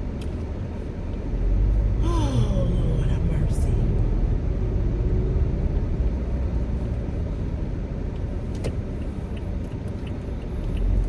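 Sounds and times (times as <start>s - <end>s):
car engine rumble from inside: 0.0s - 11.0s.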